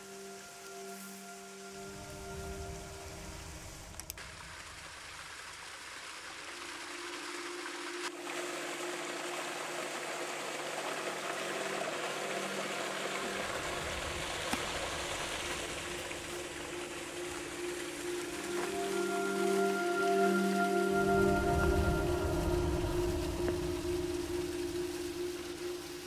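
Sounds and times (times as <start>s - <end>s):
low sustained tone: 0.0s - 4.2s, 7.4s - 26.0s
creek water rushing over rocks: 4.2s - 26.0s.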